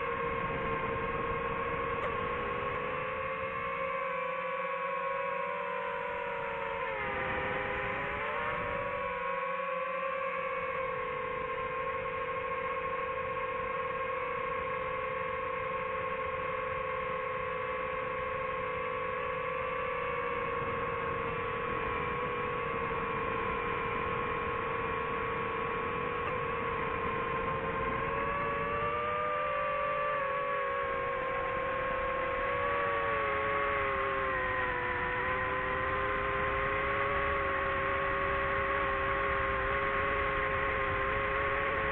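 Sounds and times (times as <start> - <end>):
drone propellers whining: 0.0 - 41.9.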